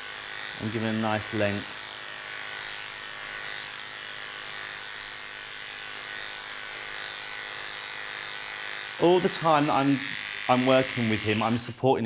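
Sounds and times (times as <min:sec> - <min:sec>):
electric clippers running: 0:00.0 - 0:11.8.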